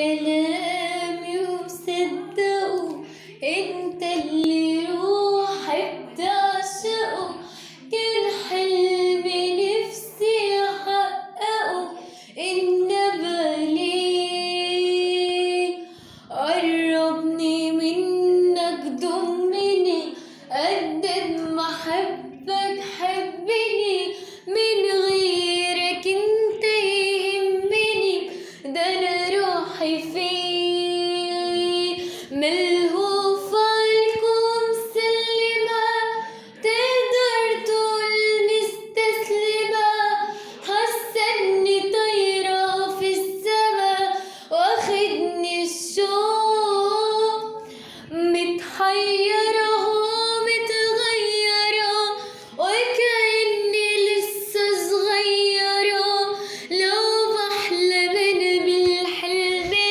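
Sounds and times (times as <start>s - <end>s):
young female voice singing: 0.0s - 59.9s.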